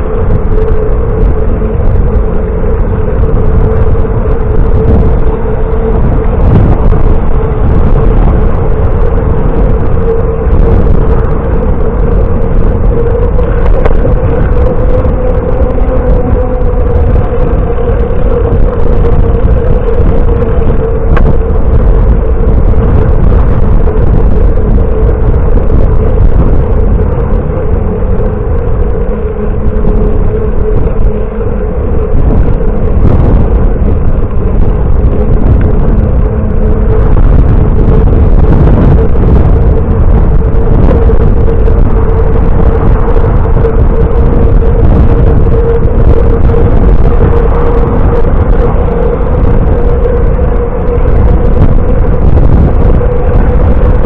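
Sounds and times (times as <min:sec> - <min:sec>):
steady hum: 0:00.0 - 0:54.0
wind rumbling on microphone: 0:00.0 - 0:54.0.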